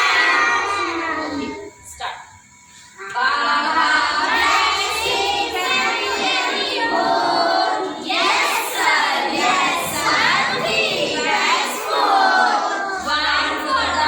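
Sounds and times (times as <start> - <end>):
children singing in unison: 0.0 - 1.8, 2.9 - 14.0.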